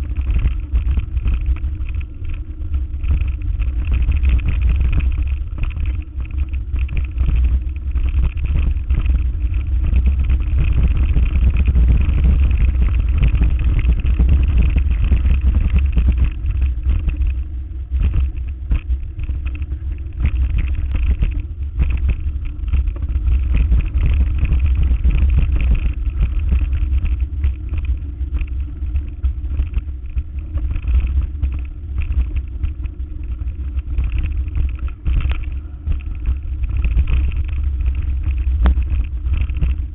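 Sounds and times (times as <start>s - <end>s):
vehicle engine rumble: 0.0s - 39.9s.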